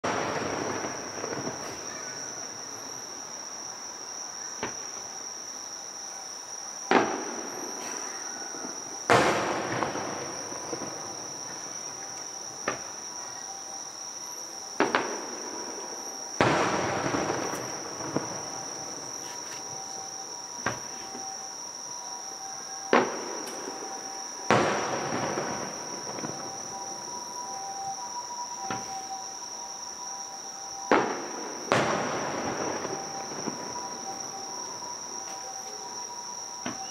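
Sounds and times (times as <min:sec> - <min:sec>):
distant fireworks bangs: 0:00.0 - 0:03.0, 0:06.8 - 0:13.8, 0:14.4 - 0:21.4, 0:22.4 - 0:29.3, 0:30.7 - 0:36.9
insects trilling: 0:00.0 - 0:36.9.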